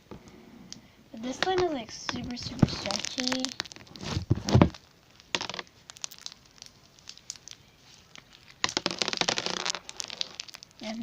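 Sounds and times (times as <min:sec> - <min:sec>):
crunchy slime crackling: 0:01.2 - 0:11.0.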